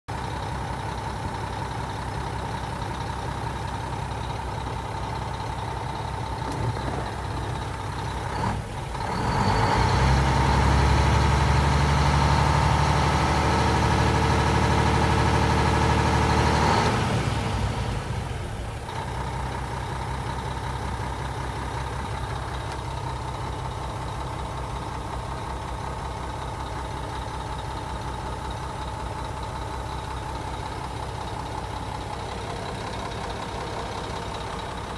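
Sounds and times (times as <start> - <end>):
diesel truck engine idling and revving: 0.1 - 34.9.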